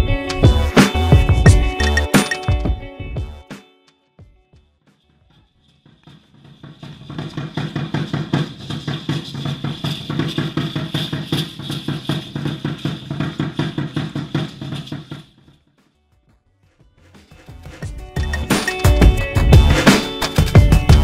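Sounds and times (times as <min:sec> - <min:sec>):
music with fast drumming: 0:00.0 - 0:03.6, 0:04.2 - 0:15.6, 0:16.7 - 0:21.0.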